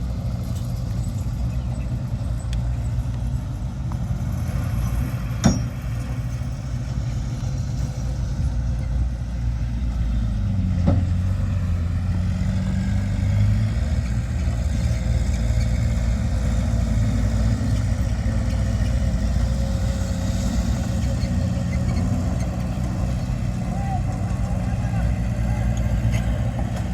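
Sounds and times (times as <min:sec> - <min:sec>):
heavy machinery diesel engine: 0:00.0 - 0:26.9.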